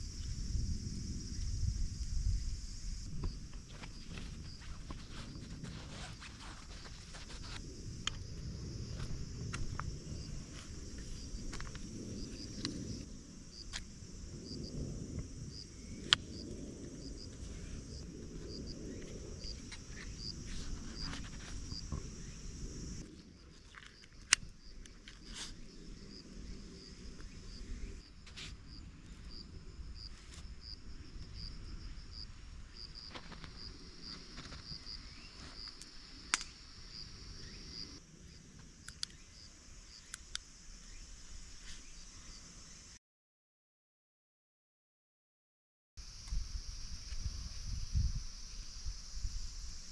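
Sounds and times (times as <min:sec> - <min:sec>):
insect chirping: 0:00.0 - 0:43.0, 0:46.0 - 0:49.9.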